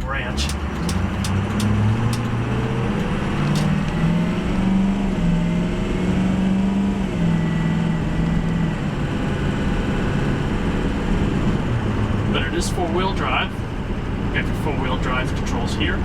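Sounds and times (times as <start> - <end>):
diesel engine drone: 0.0 - 16.0
road noise: 0.0 - 16.0.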